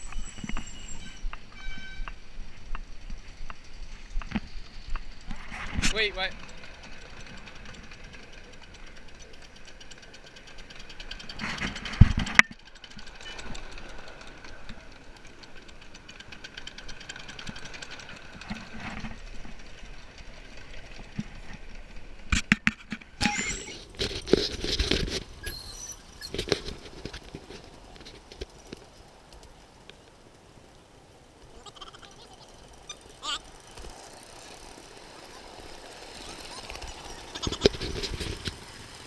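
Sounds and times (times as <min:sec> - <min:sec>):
model steam train running on track: 0:00.2 - 0:22.6, 0:29.9 - 0:39.0.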